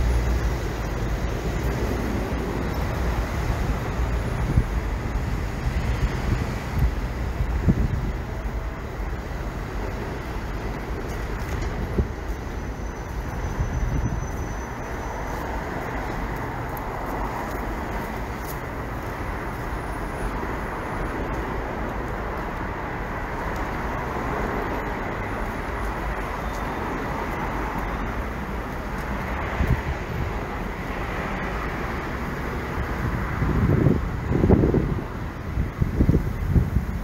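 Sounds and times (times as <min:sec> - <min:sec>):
passing traffic rumble: 0:00.0 - 0:37.0.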